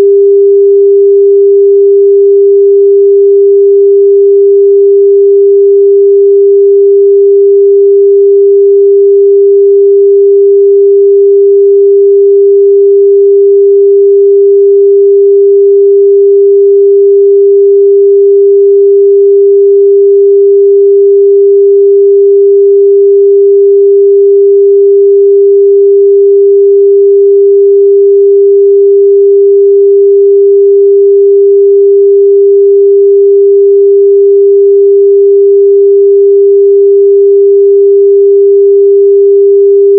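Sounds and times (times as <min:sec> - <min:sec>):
steady pure sine tone: 0:00.0 - 0:39.9.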